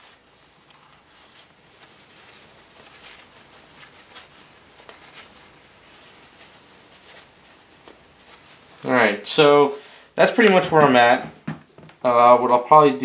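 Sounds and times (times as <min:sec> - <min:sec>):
paper towel rustling and rubbing: 0:00.0 - 0:11.8.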